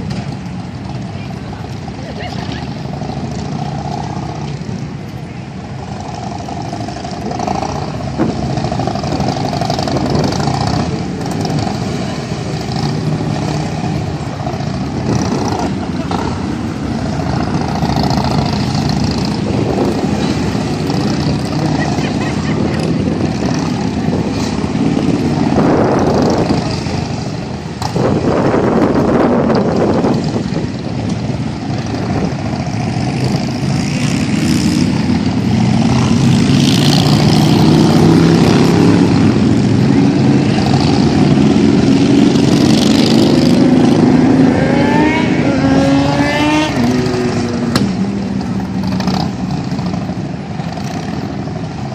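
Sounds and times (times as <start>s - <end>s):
motorcycle engines blipping: 0.0s - 51.9s
engine revving: 5.9s - 30.7s, 31.3s - 51.9s.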